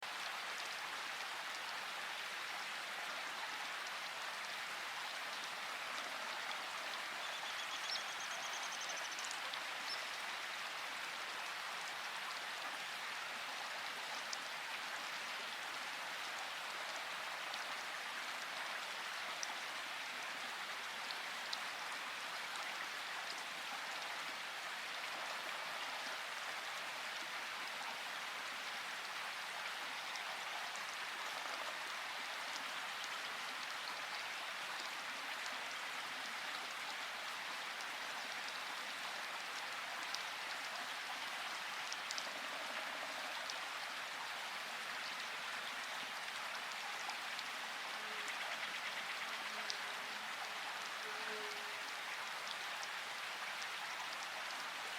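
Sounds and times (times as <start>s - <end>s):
steady rain hissing: 0.0s - 54.9s.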